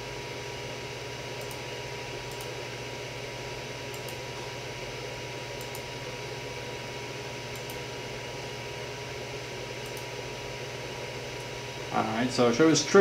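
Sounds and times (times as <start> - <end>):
cooling fan whirring: 0.0 - 13.0.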